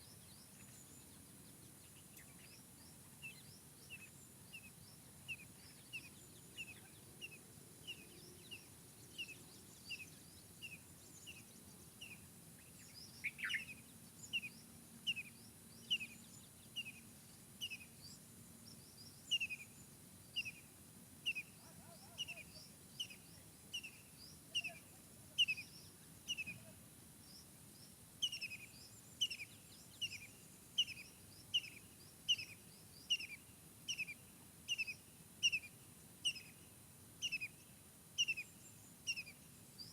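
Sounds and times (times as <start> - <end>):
soft steady hiss: 0.0 - 39.9
songbird chirping: 0.0 - 39.9.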